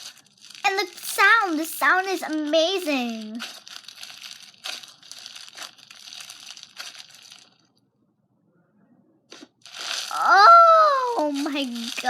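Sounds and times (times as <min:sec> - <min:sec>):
crunchy slime crackling: 0:00.0 - 0:07.7, 0:09.4 - 0:12.0.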